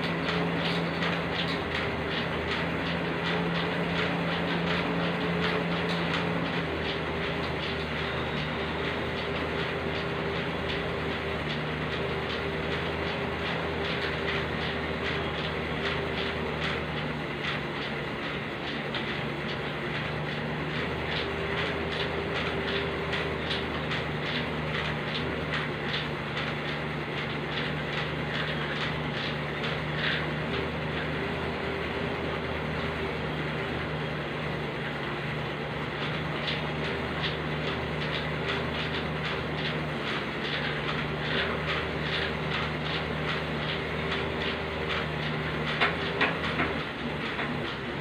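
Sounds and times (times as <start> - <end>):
steady machine hum: 0.0 - 48.0.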